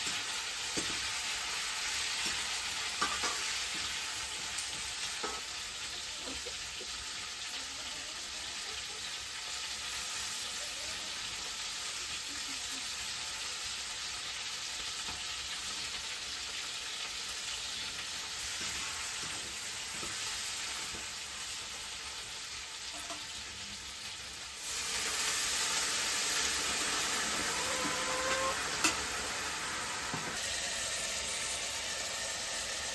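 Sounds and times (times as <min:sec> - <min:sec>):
food sizzling in hot oil: 0:00.0 - 0:32.9.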